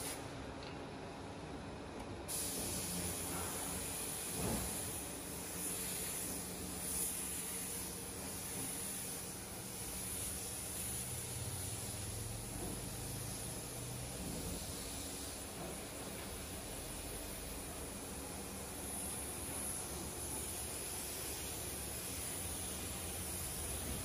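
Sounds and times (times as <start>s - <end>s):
spray gun hissing: 2.3s - 24.0s.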